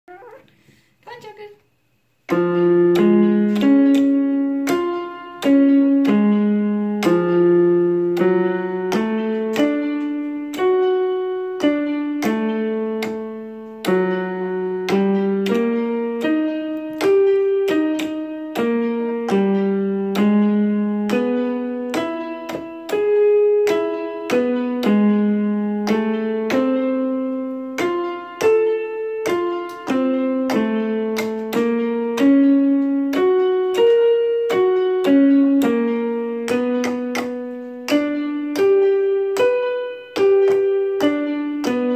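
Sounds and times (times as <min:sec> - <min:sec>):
keyboard piano notes: 0:00.1 - 0:41.9.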